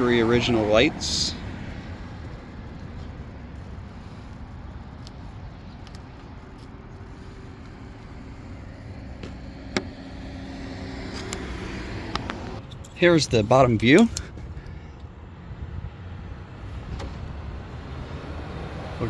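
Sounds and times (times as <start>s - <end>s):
low vehicle-like rumble: 0.0s - 19.0s.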